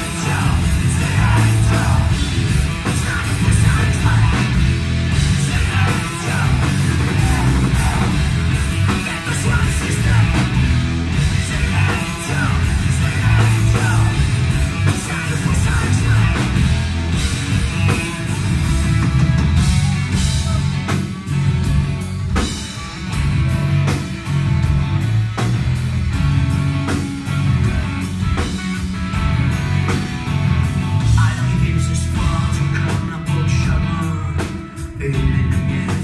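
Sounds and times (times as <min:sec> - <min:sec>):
live rock band with singing: 0:00.0 - 0:36.0.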